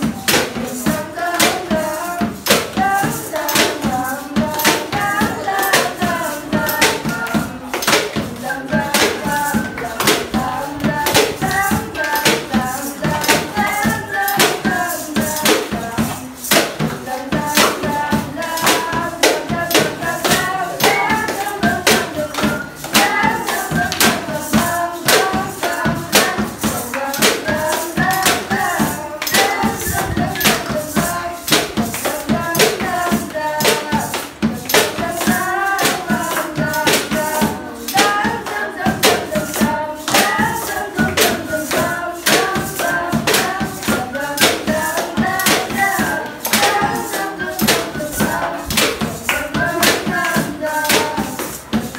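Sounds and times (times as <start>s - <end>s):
group singing together: 0.0s - 51.9s
hand claps: 0.0s - 51.9s
plastic bottle shaker: 0.0s - 51.9s
plastic jug played as drum: 0.0s - 51.9s.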